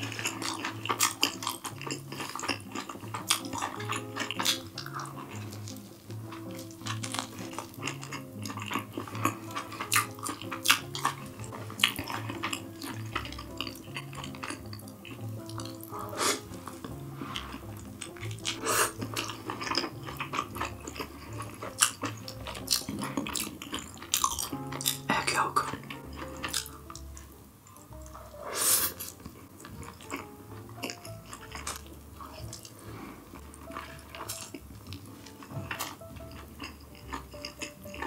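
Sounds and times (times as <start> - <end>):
background music: 0.0 - 38.0.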